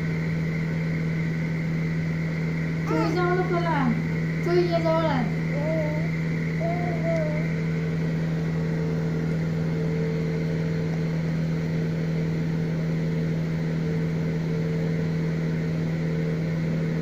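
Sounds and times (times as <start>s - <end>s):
mechanical hum with low tone: 0.0s - 17.0s.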